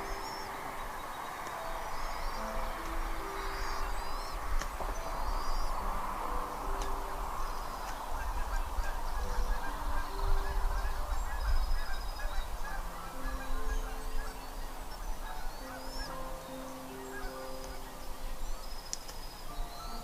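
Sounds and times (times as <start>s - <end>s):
high chirping bird calls: 0.0s - 20.0s
low rumble and hiss: 0.0s - 20.0s.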